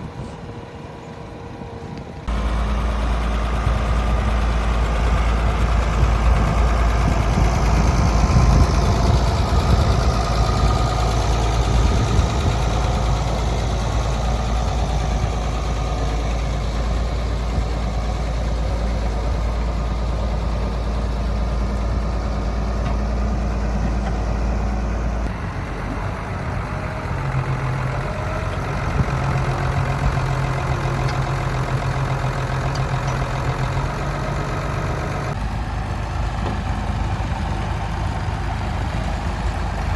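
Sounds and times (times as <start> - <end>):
another engine steady note: 0.0 - 39.9
deep tractor engine hum: 0.0 - 39.9.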